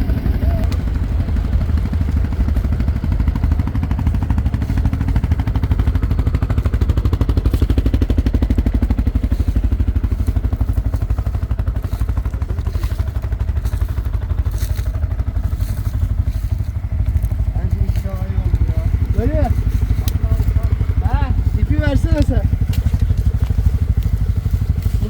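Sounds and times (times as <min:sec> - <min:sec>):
atv engine idling: 0:00.0 - 0:25.0.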